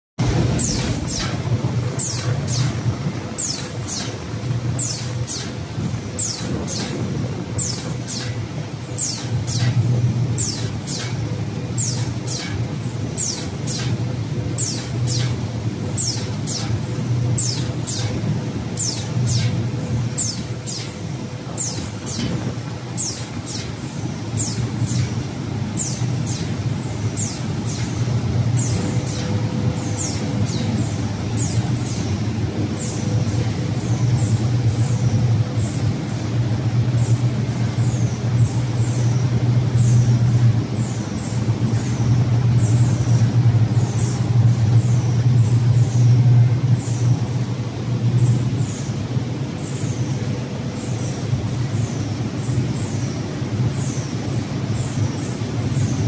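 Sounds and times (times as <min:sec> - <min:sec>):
machine hum: 0:00.2 - 0:56.0
machine whine: 0:00.2 - 0:56.0.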